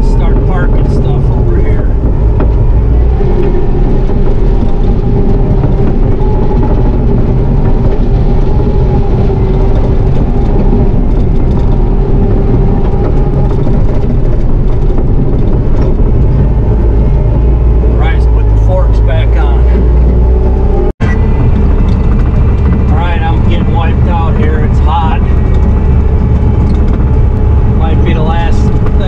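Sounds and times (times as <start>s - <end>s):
diesel engine droning with whine: 0.0s - 29.0s.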